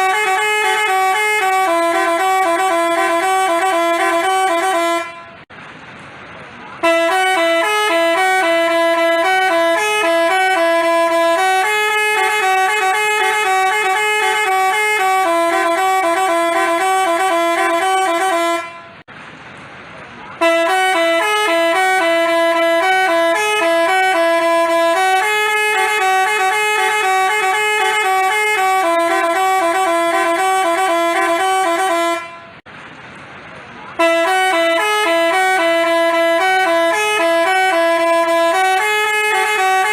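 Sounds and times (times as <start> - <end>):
musical bus horn tune: 0.0 - 5.5, 6.7 - 19.1, 20.4 - 32.7, 34.0 - 39.9.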